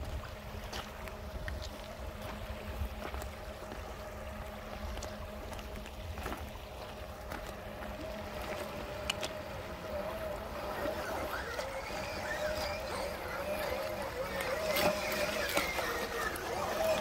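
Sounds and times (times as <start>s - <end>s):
small electric motor whining: 1.2s - 17.0s.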